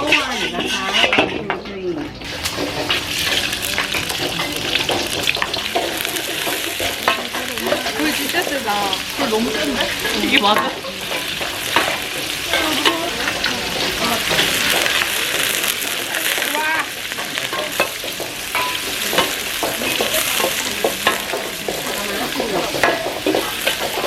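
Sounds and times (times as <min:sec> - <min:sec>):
food sizzling in a pan: 0:00.0 - 0:24.0
utensil clinking and scraping pan: 0:00.0 - 0:24.0.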